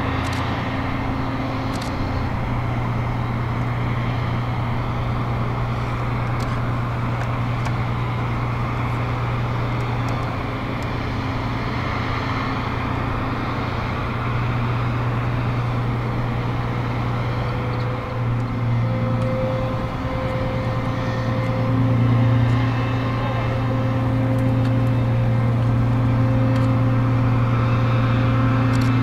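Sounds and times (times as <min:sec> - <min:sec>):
higher steady hum: 0:00.0 - 0:29.0
low drone of deck machinery: 0:00.0 - 0:29.0.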